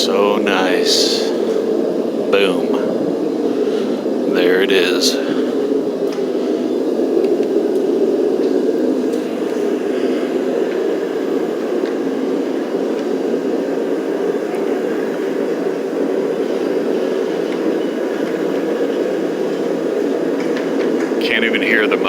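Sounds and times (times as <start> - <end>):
heater blowing hum: 0.0 - 22.0.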